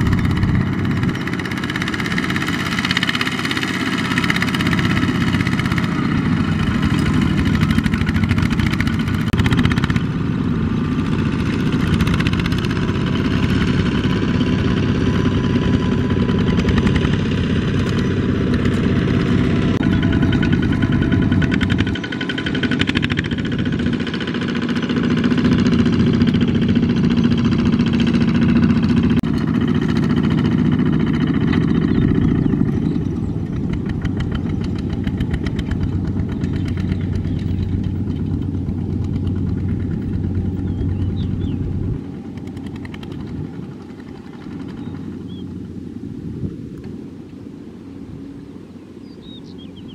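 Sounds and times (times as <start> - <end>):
walking tractor diesel engine: 0.0 - 49.9.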